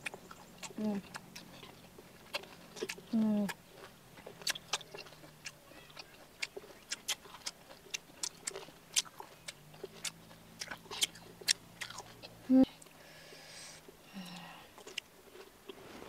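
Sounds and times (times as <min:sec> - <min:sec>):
chewing mouth clicks: 0:00.0 - 0:13.0, 0:13.7 - 0:15.8.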